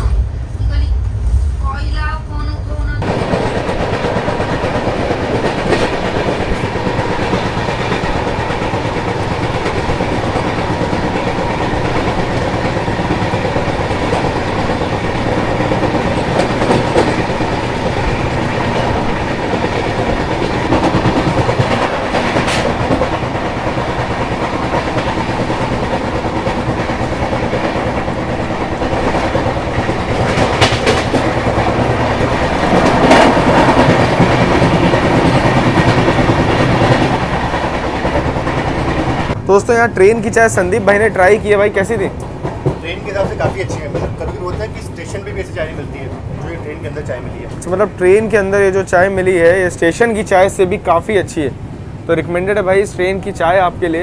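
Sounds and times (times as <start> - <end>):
steel wheels rumbling on rails: 0.0 - 54.0
wheels clicking over rail joints: 3.0 - 39.4, 40.7 - 51.4.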